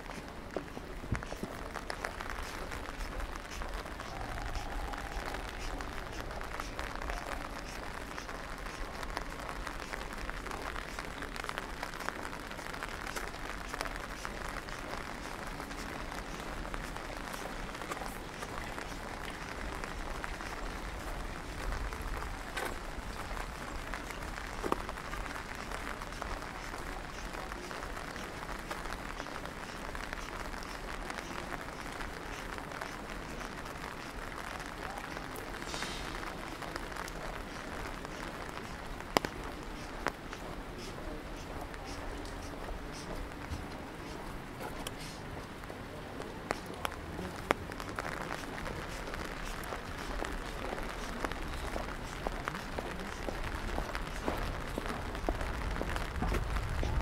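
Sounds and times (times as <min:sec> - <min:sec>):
steady rain patter: 0:00.0 - 0:57.0.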